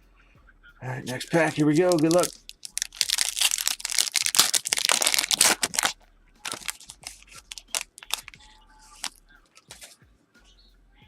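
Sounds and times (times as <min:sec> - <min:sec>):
cards being handled: 0:01.0 - 0:10.0
foil wrapper tearing and crinkling: 0:01.1 - 0:10.0.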